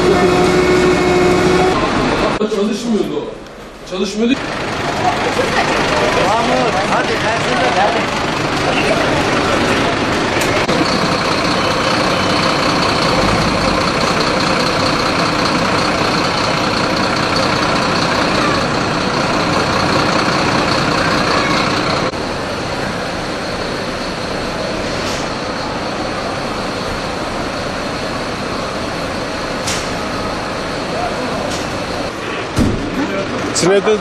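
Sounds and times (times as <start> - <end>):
fire truck engines idling: 0.0 - 34.0.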